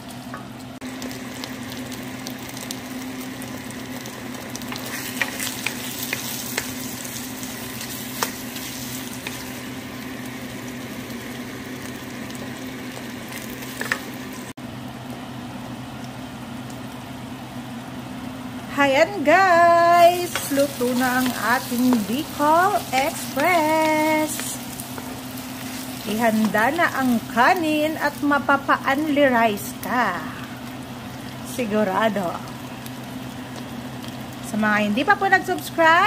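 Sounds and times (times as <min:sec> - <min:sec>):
pork sizzling in a wok: 0:00.0 - 0:36.0.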